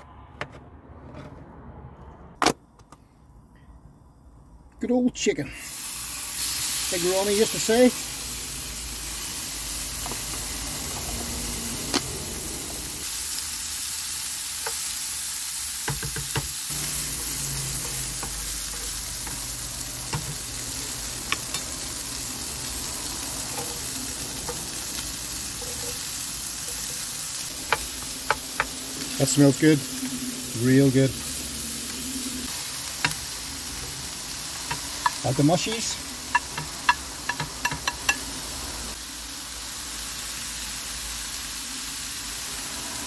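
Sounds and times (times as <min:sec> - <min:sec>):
chicken sizzling in a frying pan: 0:05.5 - 0:43.0.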